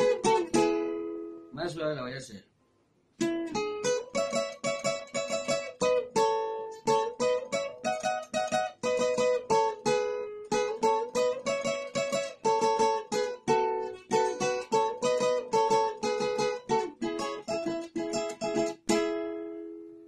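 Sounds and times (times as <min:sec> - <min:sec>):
acoustic guitar picking: 0:00.0 - 0:01.5, 0:03.2 - 0:20.0.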